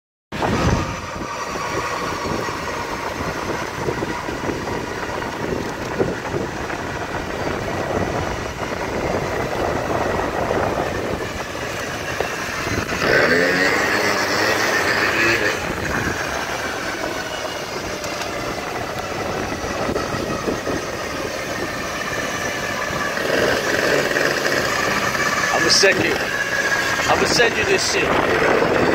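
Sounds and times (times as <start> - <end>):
wind over microphone: 0.3 - 28.9
moped engine running: 0.4 - 28.9
whine rising in pitch: 0.4 - 28.9.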